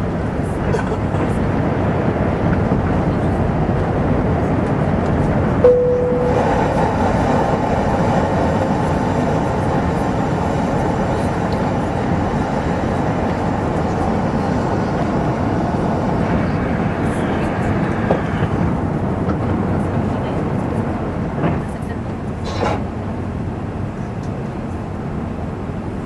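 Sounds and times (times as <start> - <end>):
airplane cabin rumble during takeoff: 0.0 - 26.0.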